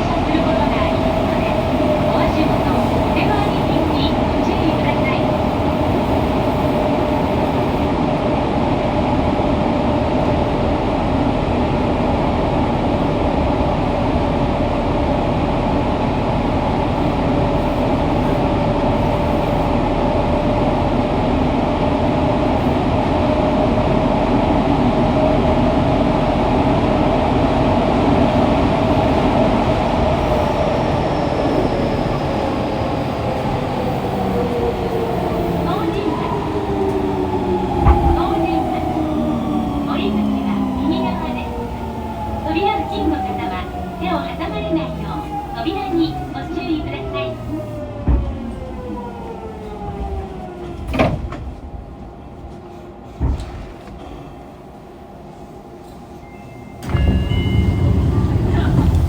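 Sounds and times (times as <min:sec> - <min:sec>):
subway train running in tunnel: 0:00.0 - 0:59.0.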